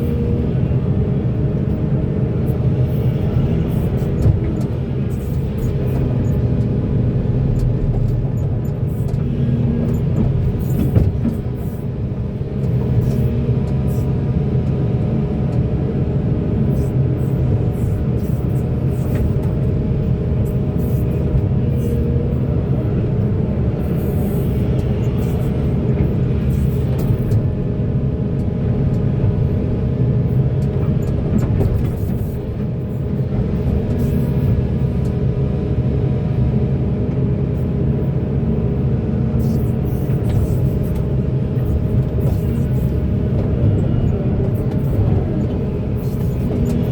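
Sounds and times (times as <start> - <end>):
excavator diesel engine under load: 0.0 - 46.9.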